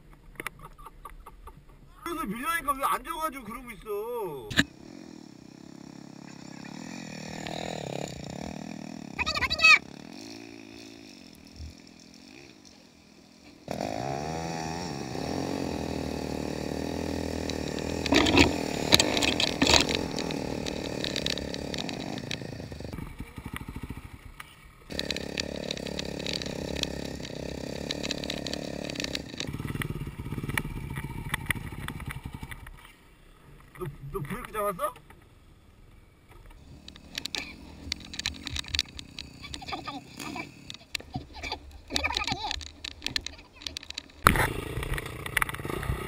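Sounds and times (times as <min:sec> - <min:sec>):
dirt bike engine revving: 0:02.4 - 0:46.0.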